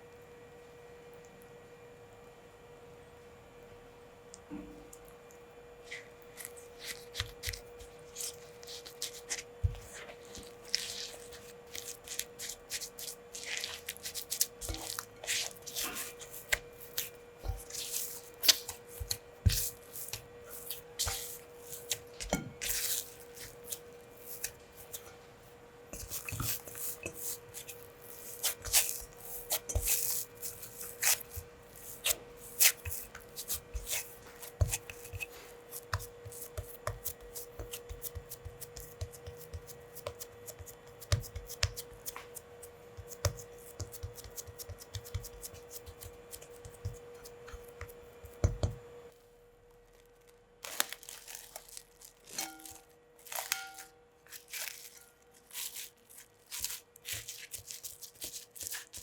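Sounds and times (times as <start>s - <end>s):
faint steady hum: 0.0s - 59.0s
hands rubbing and tapping food: 5.9s - 25.1s, 26.0s - 48.8s, 52.3s - 59.0s.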